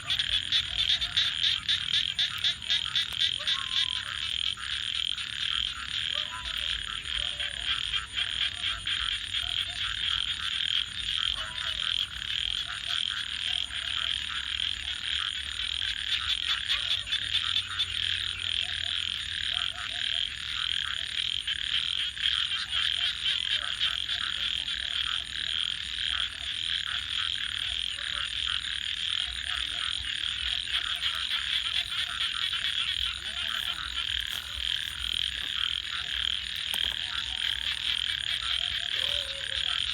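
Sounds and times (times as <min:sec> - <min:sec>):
frog croaks: 0:00.0 - 0:39.9
frogs trilling: 0:00.0 - 0:39.9.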